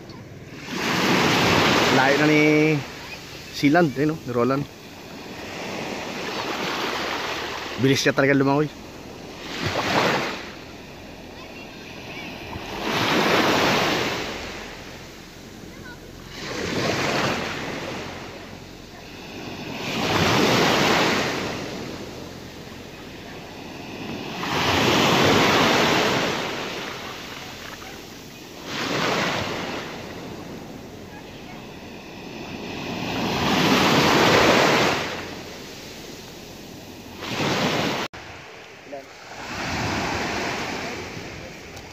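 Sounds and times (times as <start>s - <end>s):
small sea waves washing in: 0.0s - 41.9s.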